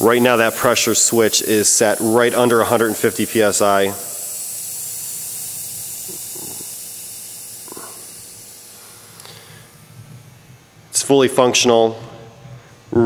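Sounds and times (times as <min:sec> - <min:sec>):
compressed air hissing: 0:00.0 - 0:10.7.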